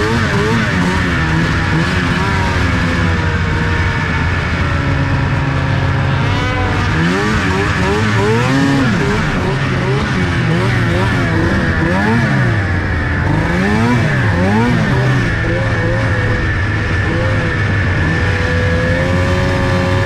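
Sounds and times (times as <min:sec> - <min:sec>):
vehicle engine running: 0:00.0 - 0:20.0
whining tone rising and falling: 0:00.0 - 0:20.0.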